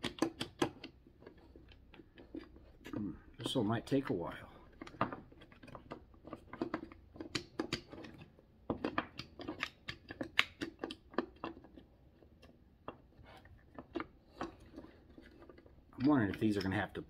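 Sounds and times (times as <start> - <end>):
wooden pegs clicking and knocking: 0.0 - 17.0.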